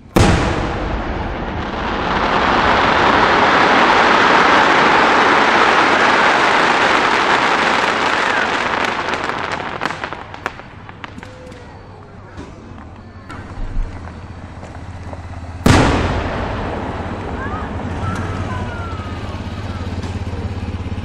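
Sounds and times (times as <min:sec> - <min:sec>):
firework boom: 0:00.0 - 0:14.6, 0:15.6 - 0:20.5
sharp firework pops: 0:00.0 - 0:19.2, 0:19.9 - 0:20.5
firework crackling: 0:00.0 - 0:21.0.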